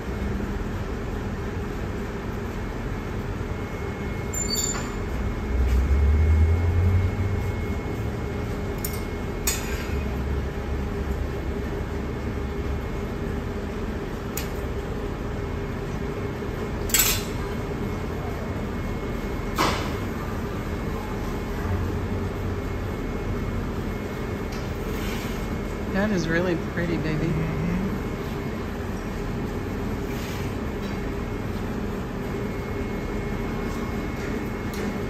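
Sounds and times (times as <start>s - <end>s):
furnace and fan roaring: 0.0s - 35.0s.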